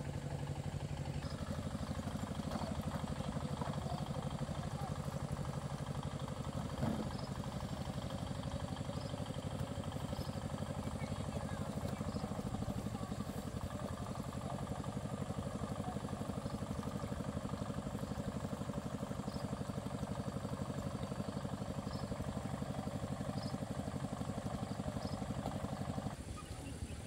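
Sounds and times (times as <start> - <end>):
small engine idling: 0.0 - 27.0.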